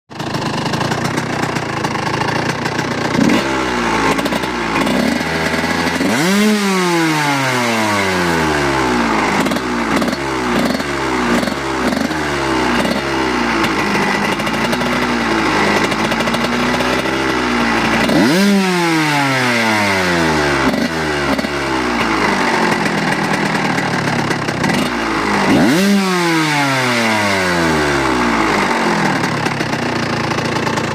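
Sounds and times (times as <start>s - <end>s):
motorcycle engine revving: 0.1s - 30.9s.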